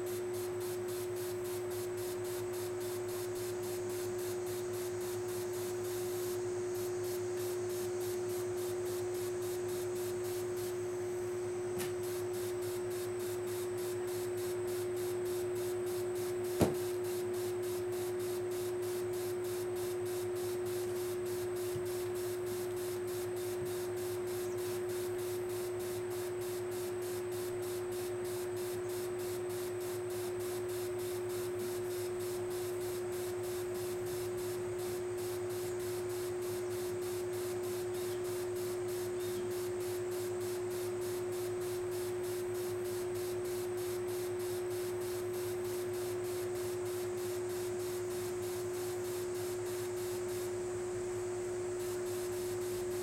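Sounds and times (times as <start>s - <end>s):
constant hum: 0.0s - 53.0s.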